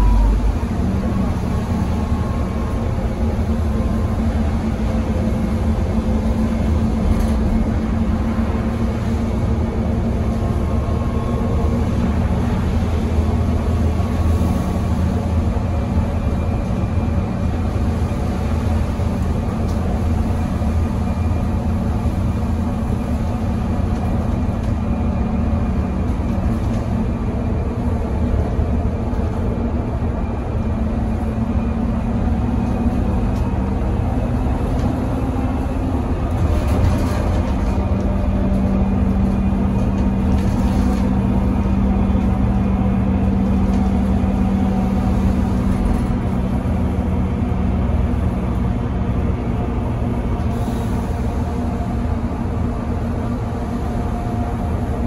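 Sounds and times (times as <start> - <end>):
bus interior engine drone: 0.0 - 55.0.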